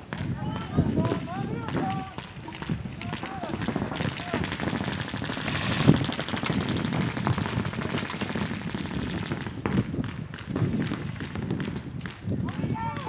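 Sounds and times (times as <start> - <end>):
airsoft guns firing full auto: 0.0 - 13.0.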